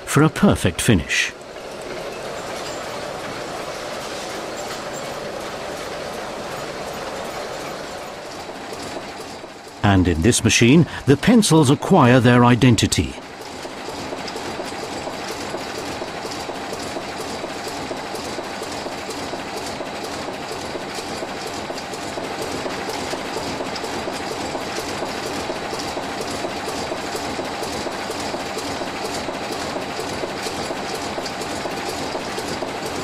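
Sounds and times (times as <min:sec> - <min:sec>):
stamping machine clatter: 0:01.5 - 0:09.8, 0:13.2 - 0:33.0.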